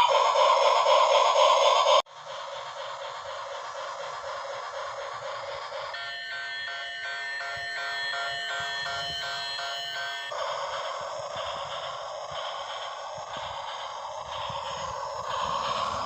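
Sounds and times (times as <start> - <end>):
toy train whirring hiss: 0.0 - 16.0.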